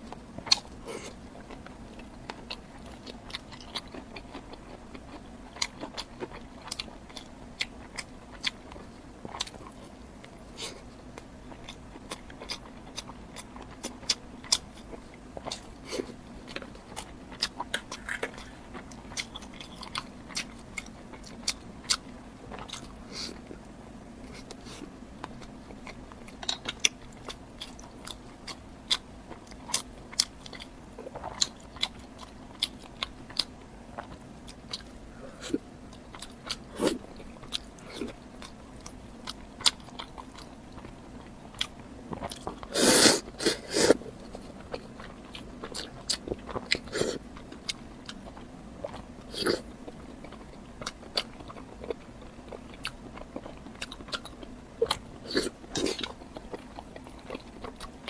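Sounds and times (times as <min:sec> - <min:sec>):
crunchy chewing: 0:00.0 - 0:58.0
faint steady hum: 0:00.0 - 0:58.0.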